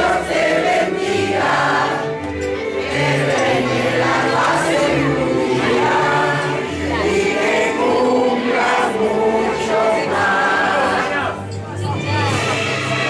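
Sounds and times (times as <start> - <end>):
voices singing together: 0.0 - 11.5.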